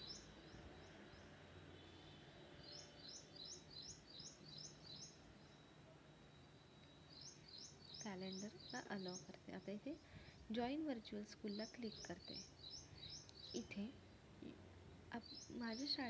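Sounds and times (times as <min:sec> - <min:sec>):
small bird chirping: 0:00.0 - 0:05.7, 0:06.3 - 0:10.5, 0:11.4 - 0:16.0
faint steady high tone: 0:00.0 - 0:16.0.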